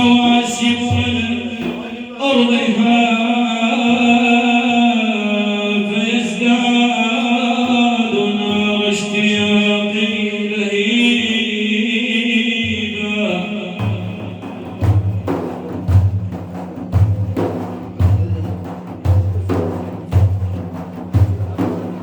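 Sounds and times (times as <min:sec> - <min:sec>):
unaccompanied devotional chanting: 0:00.0 - 0:22.0.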